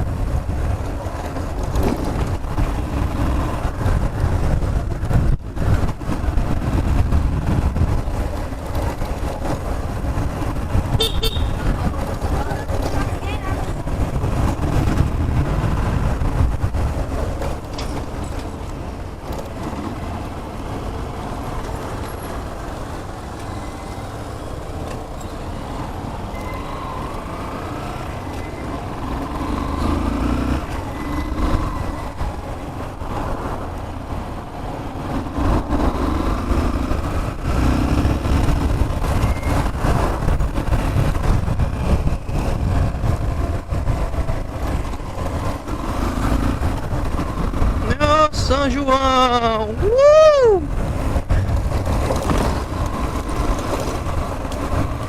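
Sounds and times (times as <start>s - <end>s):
motorcycle engine rumble: 0.0s - 55.0s
road and wind noise: 0.0s - 55.0s.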